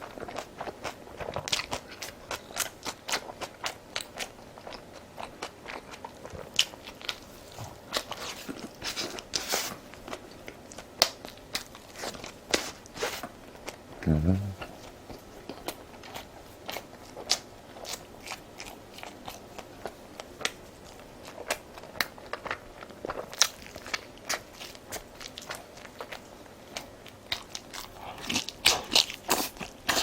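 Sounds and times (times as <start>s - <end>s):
crunchy food chewing: 0.0s - 30.0s.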